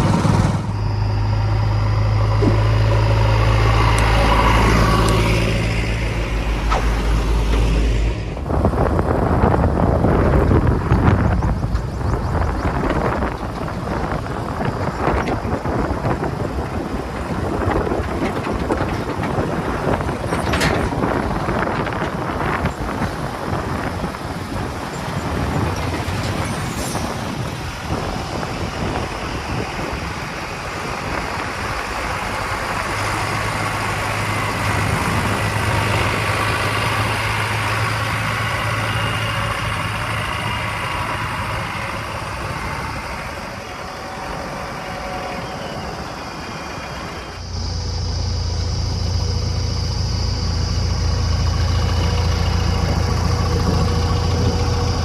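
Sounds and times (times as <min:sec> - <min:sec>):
deep engine hum: 0:00.0 - 0:55.0
diesel engine running: 0:00.0 - 0:55.0.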